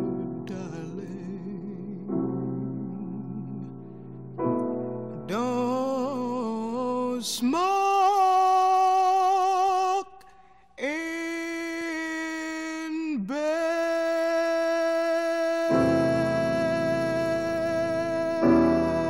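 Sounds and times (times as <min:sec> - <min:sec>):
slow song with long held notes: 0:00.0 - 0:19.0.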